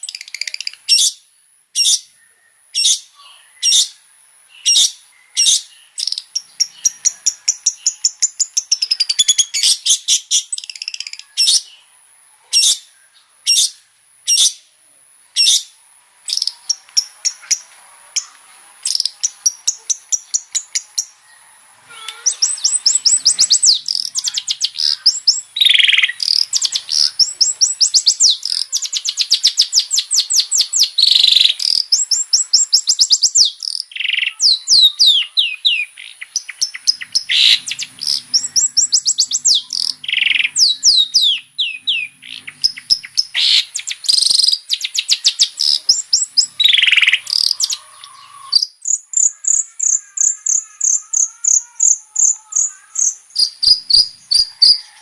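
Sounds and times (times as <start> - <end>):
shrike singing: 0.0 - 12.0, 15.4 - 55.0.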